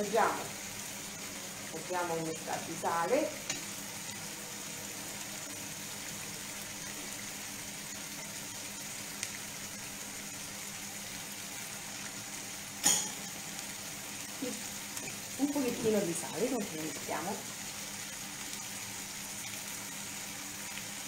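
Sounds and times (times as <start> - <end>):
sauce simmering in a frying pan: 0.0 - 21.0.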